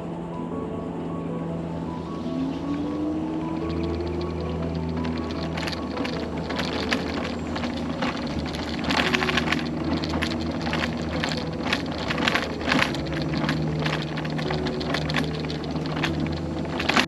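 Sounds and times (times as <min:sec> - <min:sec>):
scooter rattling and knocking: 0:02.9 - 0:17.0.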